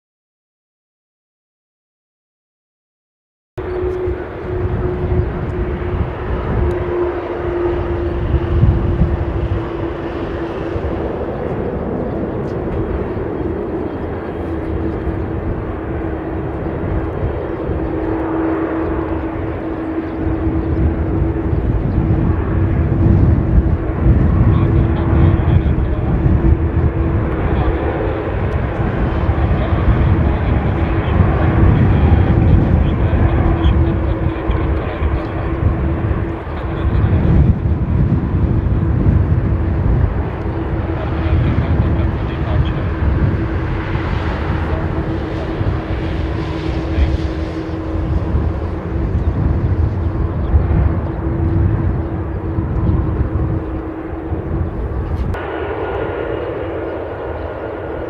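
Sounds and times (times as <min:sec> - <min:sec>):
jet engines running at low thrust: 0:03.6 - 0:58.0
steady whining tone: 0:03.6 - 0:58.0.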